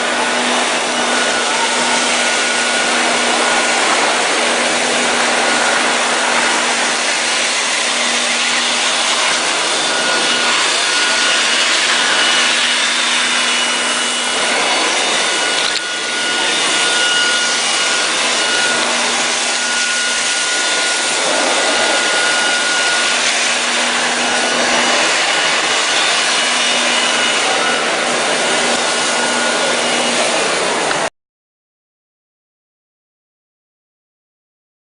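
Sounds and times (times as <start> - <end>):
floor scrubbing noise: 0.0 - 31.1
suction motor whine: 0.0 - 31.1.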